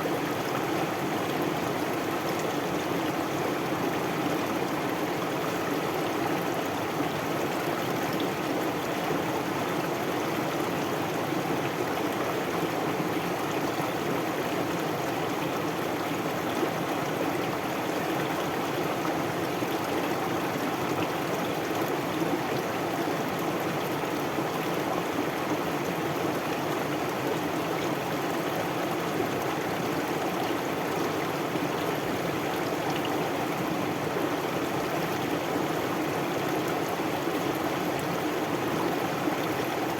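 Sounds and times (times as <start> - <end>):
stream babbling: 0.1 - 39.9.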